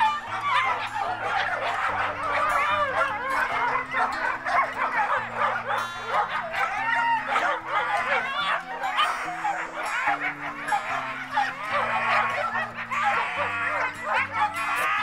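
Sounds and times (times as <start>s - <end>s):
huskies howling together: 0.0s - 15.0s
soft background music: 0.0s - 15.0s.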